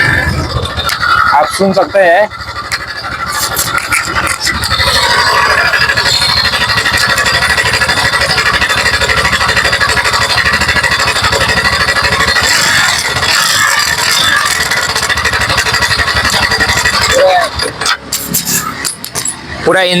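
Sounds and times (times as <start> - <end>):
scooter engine rattling clatter: 0.0 - 20.0.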